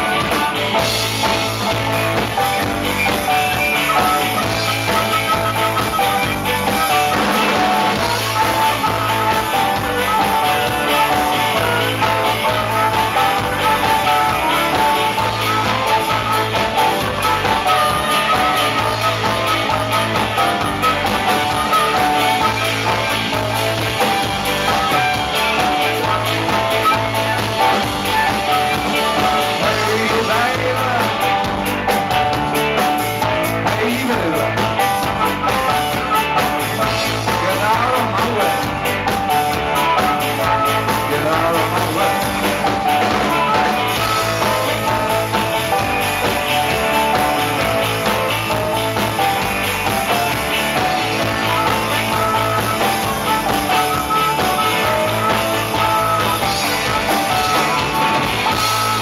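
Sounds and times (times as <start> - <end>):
bending lead guitar line: 0.0 - 59.0
rock band playing: 0.0 - 59.0.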